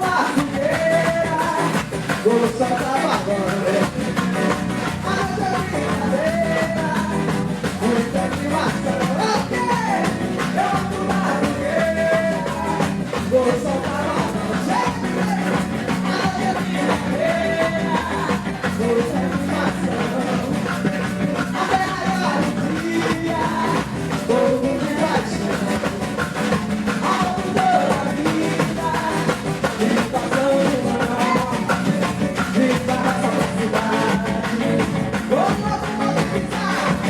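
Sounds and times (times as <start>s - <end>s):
bass: 0.0s - 37.0s
guitar: 0.0s - 37.0s
percussion beat: 0.0s - 37.0s
person singing: 0.0s - 37.0s.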